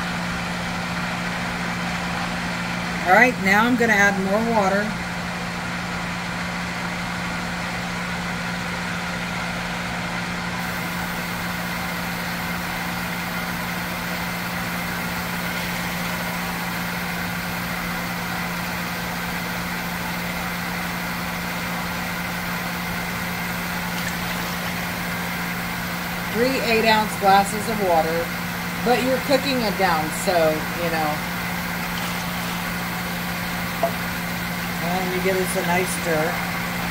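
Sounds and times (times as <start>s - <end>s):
machine hum with low tone: 0.0s - 36.9s.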